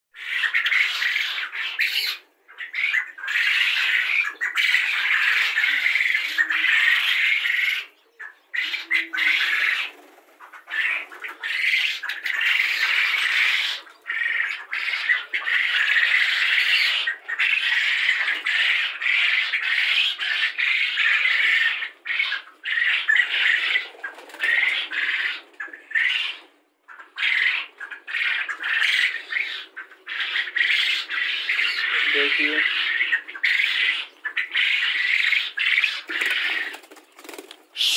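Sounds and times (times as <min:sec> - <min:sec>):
quail chicks chirping: 0:00.2 - 0:37.9.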